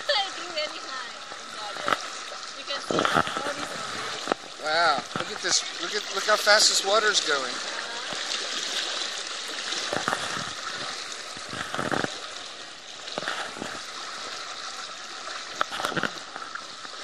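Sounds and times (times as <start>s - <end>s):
floodwater rushing and swirling: 0.0s - 17.0s
people wading with splashes: 0.0s - 17.0s.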